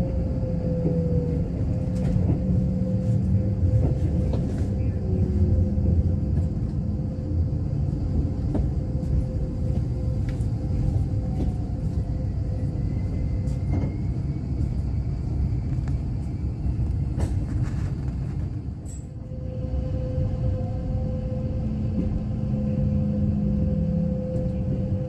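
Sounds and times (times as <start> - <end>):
train low rumble from cabin: 0.0 - 25.0.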